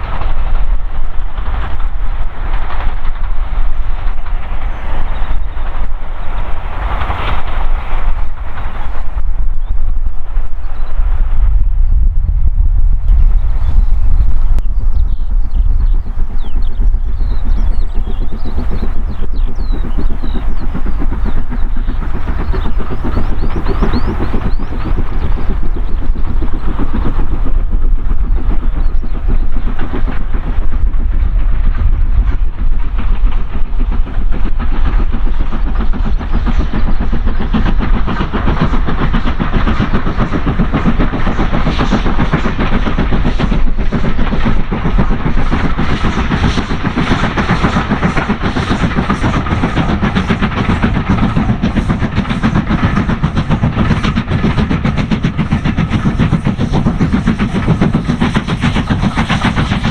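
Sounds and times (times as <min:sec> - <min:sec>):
train wheels clicking over rail joints: 0:00.0 - 0:11.3, 0:14.6 - 0:59.9.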